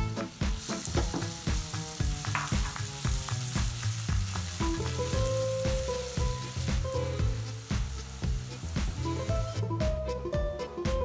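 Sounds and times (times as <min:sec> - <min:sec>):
onion and garlic sizzling in oil: 0:00.0 - 0:10.2.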